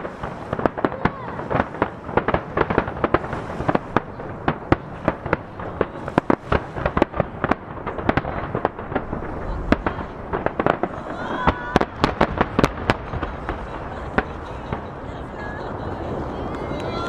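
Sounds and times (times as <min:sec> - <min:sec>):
fireworks bursting with echoing bangs: 0:00.0 - 0:17.0.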